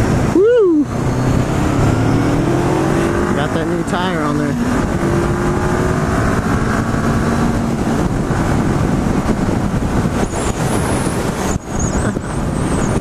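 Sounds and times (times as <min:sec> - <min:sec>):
wind buffeting a microphone: 0:00.0 - 0:13.0.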